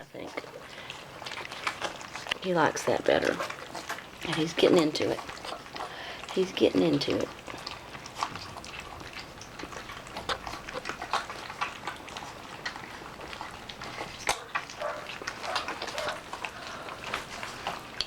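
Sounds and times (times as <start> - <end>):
puppies lapping and smacking: 0.0 - 18.0.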